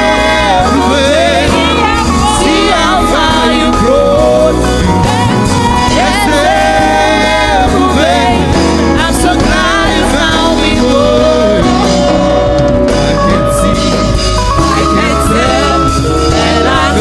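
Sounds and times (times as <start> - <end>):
gospel band playing: 0.0 - 17.0
sliding lead melody: 0.0 - 17.0.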